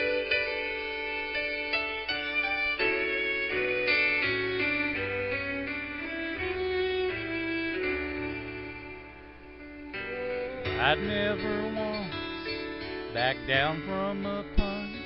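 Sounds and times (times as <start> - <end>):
country backing track: 0.0 - 15.0.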